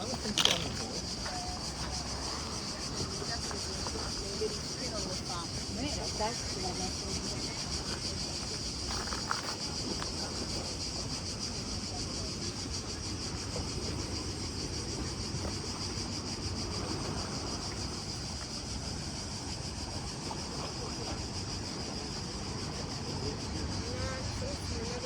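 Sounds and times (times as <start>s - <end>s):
insects buzzing: 0.0s - 25.0s
low rumble of wind: 0.0s - 25.0s.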